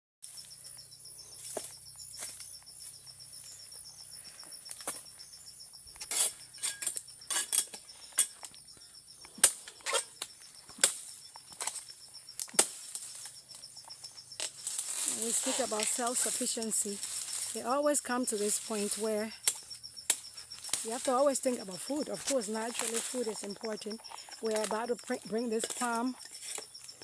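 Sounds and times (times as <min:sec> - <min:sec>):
insects trilling: 0:00.2 - 0:27.0.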